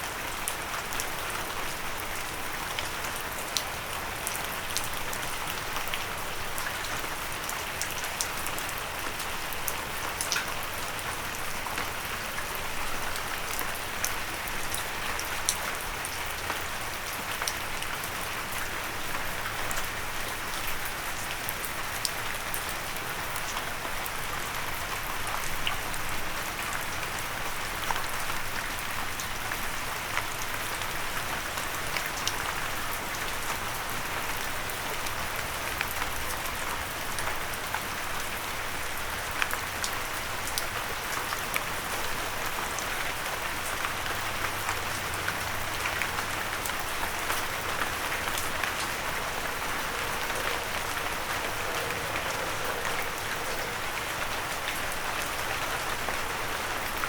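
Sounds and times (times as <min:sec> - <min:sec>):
rain drops on windowsill: 0:00.0 - 0:57.0.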